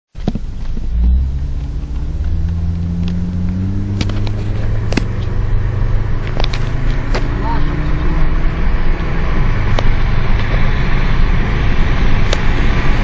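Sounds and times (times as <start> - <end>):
car engine accelerating: 0.2 - 13.0.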